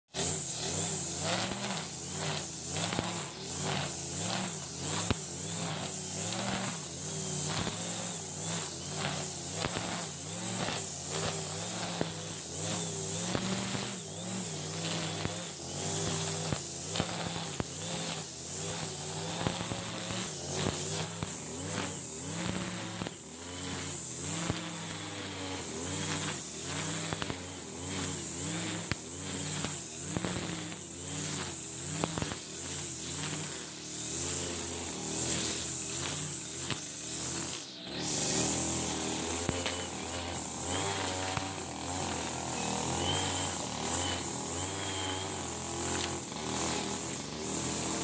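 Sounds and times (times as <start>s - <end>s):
brush cutter engine running: 0.1s - 48.0s
cutting head swishing through grass: 0.2s - 48.0s.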